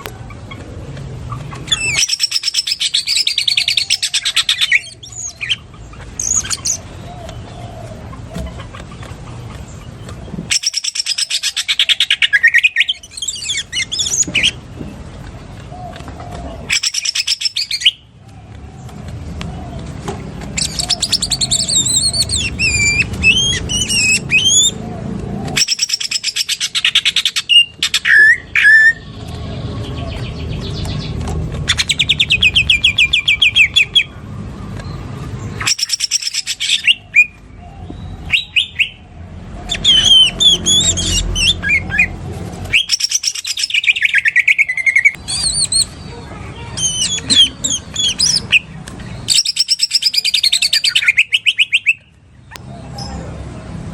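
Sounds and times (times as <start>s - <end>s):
bird singing: 0.0s - 53.8s.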